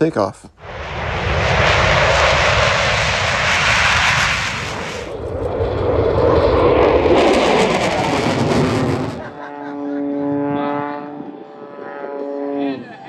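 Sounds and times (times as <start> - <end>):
jet engines at high power: 0.6 - 13.0.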